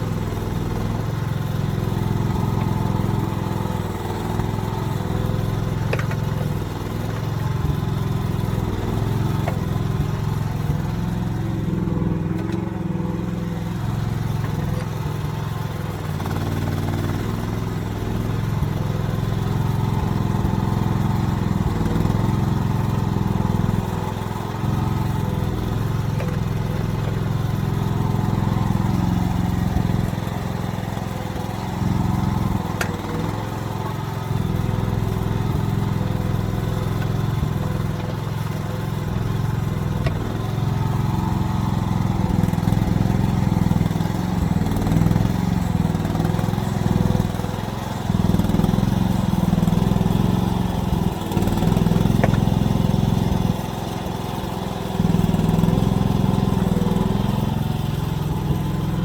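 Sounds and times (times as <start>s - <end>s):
mini excavator engine running: 0.0s - 59.0s.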